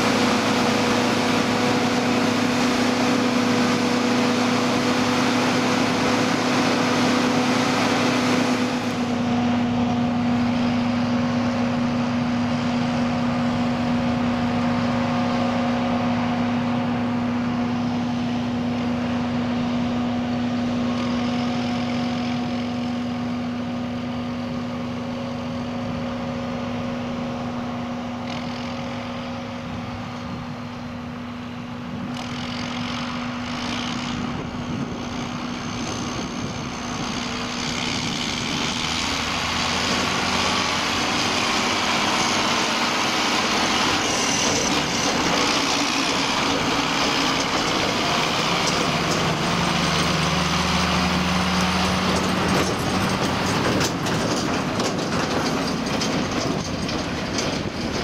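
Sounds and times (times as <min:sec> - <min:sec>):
forage harvester droning: 0:00.0 - 0:58.0.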